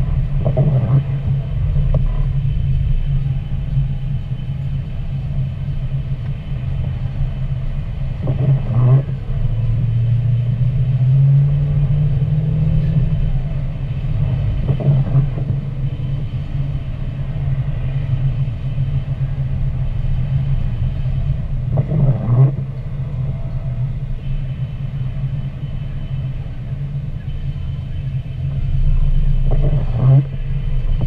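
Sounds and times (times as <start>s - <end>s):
car driving on wet road: 0.0s - 31.0s.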